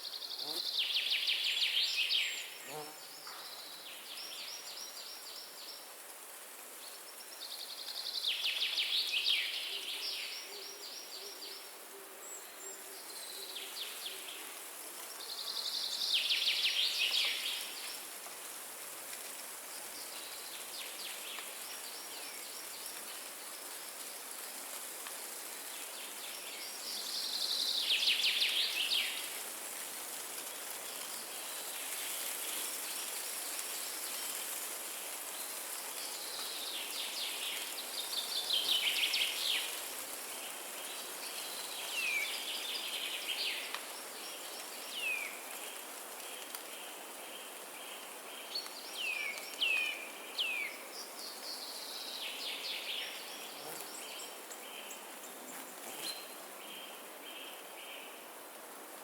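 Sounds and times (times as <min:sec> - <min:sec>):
forest wind hiss: 0:00.0 - 0:59.0.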